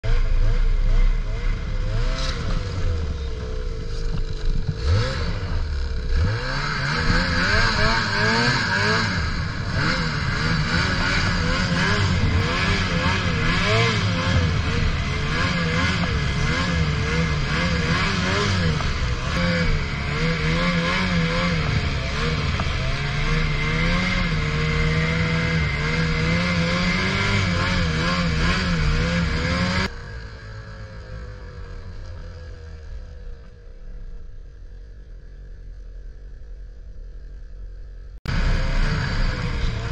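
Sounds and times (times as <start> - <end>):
snowmobile engine revving: 0.1 - 33.1, 38.3 - 39.9.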